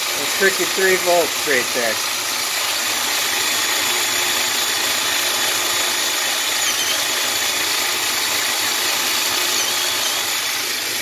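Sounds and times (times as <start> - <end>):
metal lathe whirring: 0.0 - 11.0.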